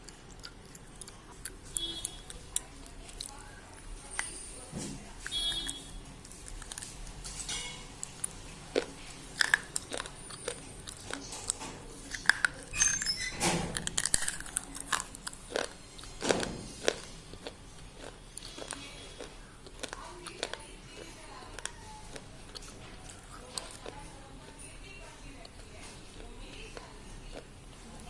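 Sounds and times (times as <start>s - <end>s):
pencil being chewed crunching: 0.0s - 4.3s, 5.2s - 13.1s, 13.7s - 27.9s.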